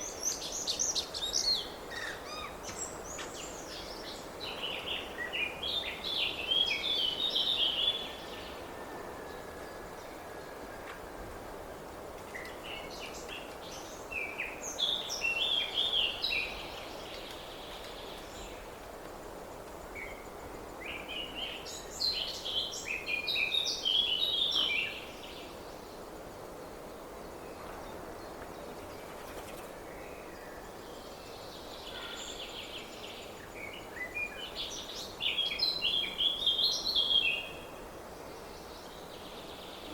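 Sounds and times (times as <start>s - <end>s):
outdoor background noise: 0.0s - 39.9s
songbird chirping: 0.0s - 39.9s.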